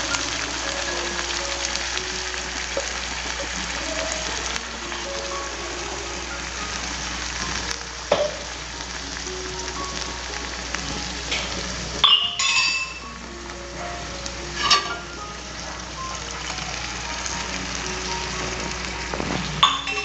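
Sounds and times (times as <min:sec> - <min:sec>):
paste sizzling in oil: 0:00.0 - 0:20.0
soft background music: 0:00.0 - 0:20.0.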